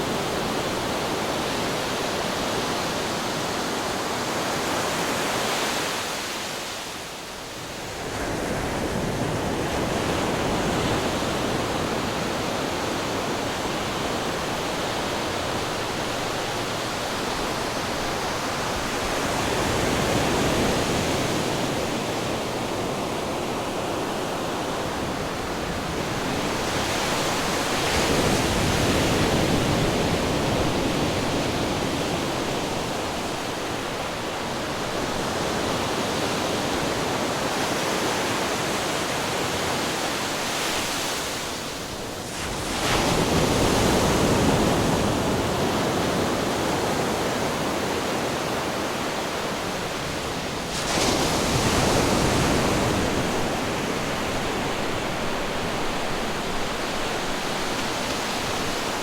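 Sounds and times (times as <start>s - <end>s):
ocean waves crashing on rocks: 8.0s - 59.0s.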